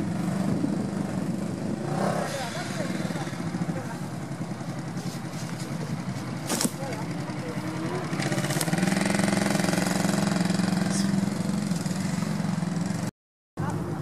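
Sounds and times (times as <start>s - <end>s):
engine running at raised revs: 0.0s - 13.9s.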